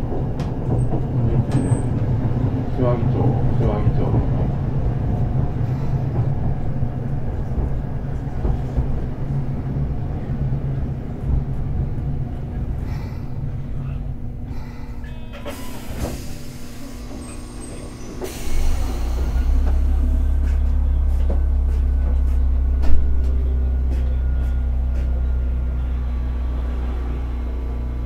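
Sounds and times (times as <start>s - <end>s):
tram motor low hum: 0.0s - 28.0s.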